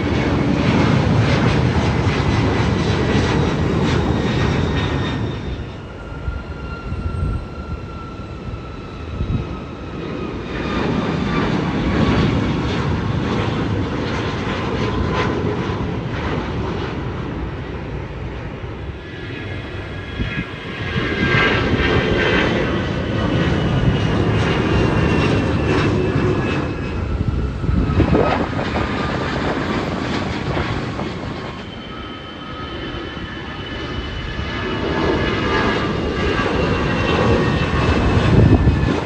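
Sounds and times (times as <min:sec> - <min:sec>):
airliner engines roaring: 0:00.0 - 0:39.0.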